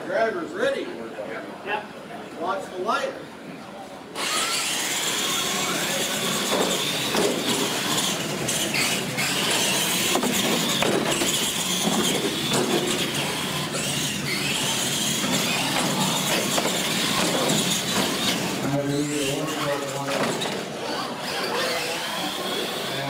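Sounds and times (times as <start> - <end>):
toy truck motors whining: 4.2 - 23.0
tyres rushing on concrete: 4.2 - 23.0.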